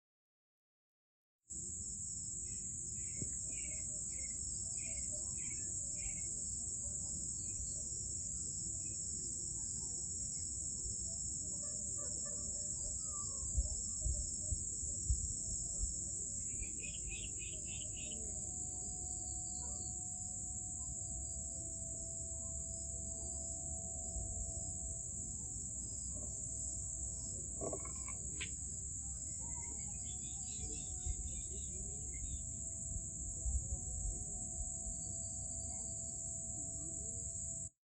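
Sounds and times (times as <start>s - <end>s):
crickets trilling: 1.6s - 37.7s
low pulsed insect chirping: 1.6s - 37.7s.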